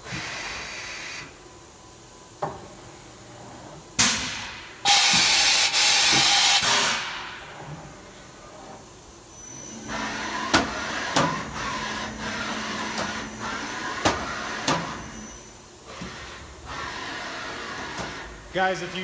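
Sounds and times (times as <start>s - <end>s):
air system hissing: 0.0s - 19.0s.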